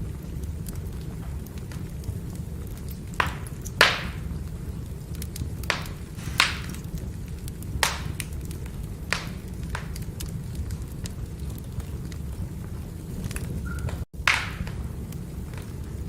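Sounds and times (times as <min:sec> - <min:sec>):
firewood popping: 0:00.0 - 0:16.0
low fire rumble: 0:00.0 - 0:16.0
wood fire crackling: 0:00.0 - 0:16.0.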